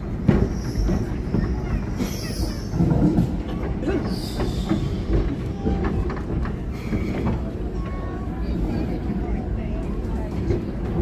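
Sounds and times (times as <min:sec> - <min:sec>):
tram knocks and clicks: 0:00.0 - 0:11.0
tram wheels rumbling: 0:00.0 - 0:11.0.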